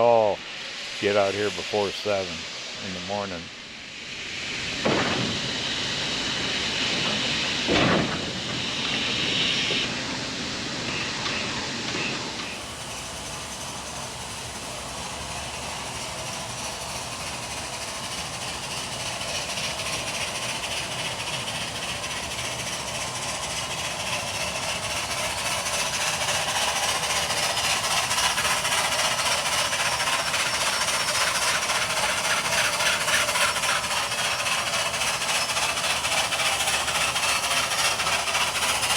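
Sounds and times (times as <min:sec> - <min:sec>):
steam locomotive hissing: 0:00.0 - 0:38.9.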